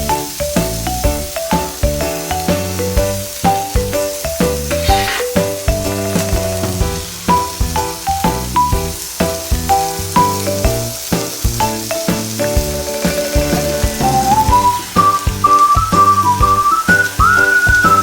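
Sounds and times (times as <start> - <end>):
background music melody: 0.0 - 18.0
meat sizzling on griddle: 0.0 - 18.0.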